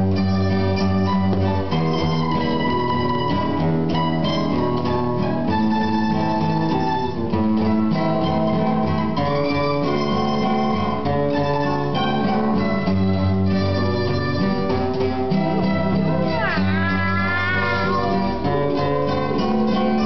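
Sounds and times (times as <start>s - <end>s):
bandola plucked melody: 0.0s - 20.0s.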